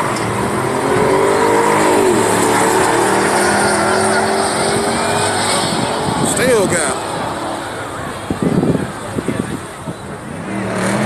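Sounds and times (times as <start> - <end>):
drag racing cars at full throttle: 0.0 - 11.0.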